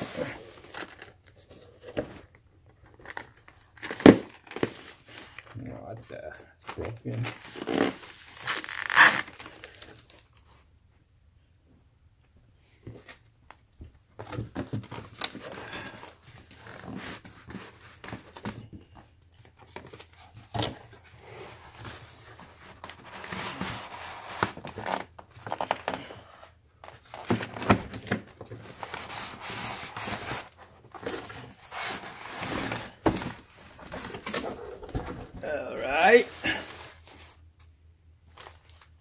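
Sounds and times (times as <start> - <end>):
packaging rustling and crinkling: 0.0 - 5.6, 6.6 - 10.6, 12.9 - 37.5.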